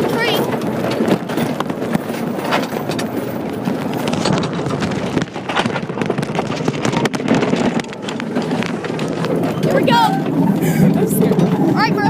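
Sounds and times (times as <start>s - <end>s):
toy train clattering on rails: 0.0s - 12.0s.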